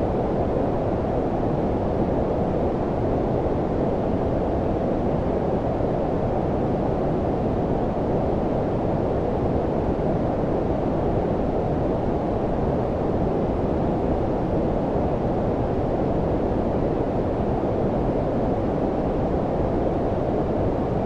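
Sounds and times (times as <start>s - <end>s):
low rumbling brown noise: 0.0s - 21.0s.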